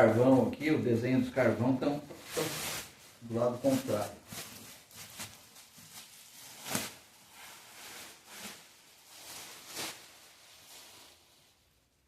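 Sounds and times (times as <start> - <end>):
plastic packaging rustling: 1.6 - 11.8.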